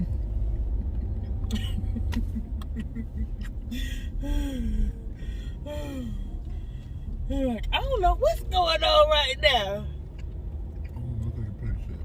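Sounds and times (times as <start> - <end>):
car interior rumble while driving: 0.0 - 12.0.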